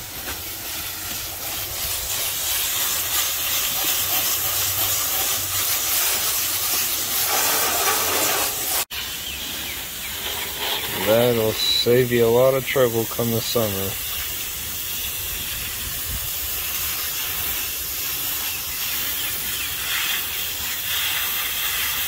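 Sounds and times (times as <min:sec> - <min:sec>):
hose spray nozzle hissing: 0:00.0 - 0:22.0.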